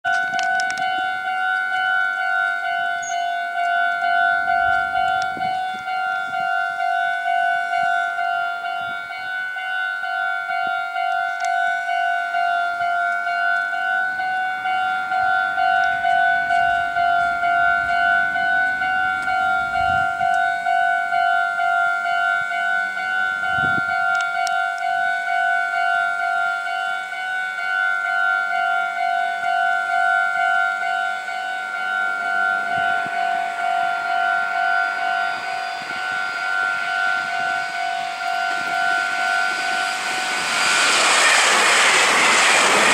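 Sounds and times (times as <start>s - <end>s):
level-crossing warning bell ringing: 0.0s - 42.9s.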